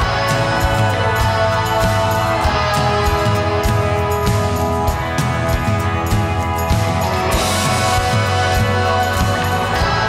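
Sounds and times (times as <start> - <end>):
soundtrack song with steady beat: 0.0 - 10.0.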